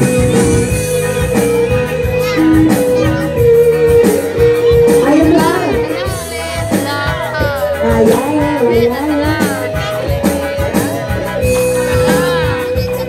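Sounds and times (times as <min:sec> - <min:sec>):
wavering melodic line: 0:00.0 - 0:10.5
drum strokes: 0:00.0 - 0:12.7
person singing: 0:00.0 - 0:13.0.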